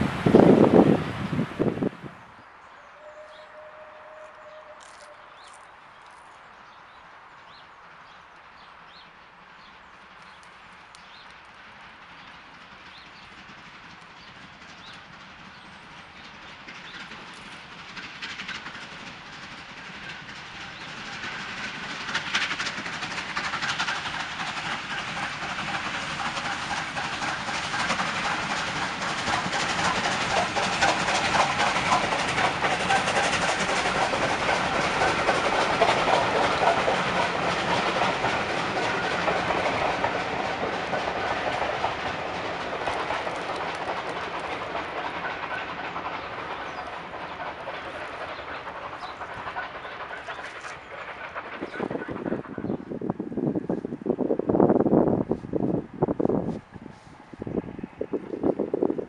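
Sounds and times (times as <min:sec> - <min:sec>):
steam locomotive passing: 0:00.0 - 0:59.0.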